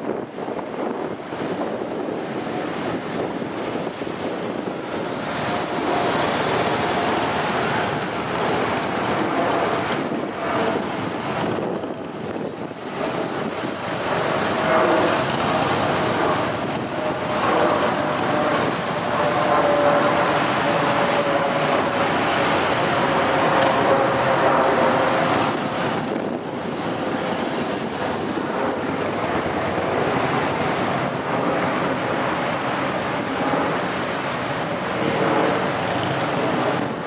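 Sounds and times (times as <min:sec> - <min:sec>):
steady rushing noise: 0:00.0 - 0:37.0
motorcycle engines at low speed: 0:02.6 - 0:37.0.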